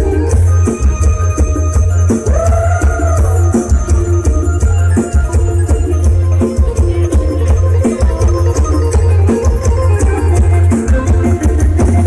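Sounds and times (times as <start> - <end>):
live band music over loudspeakers: 0.0 - 12.0.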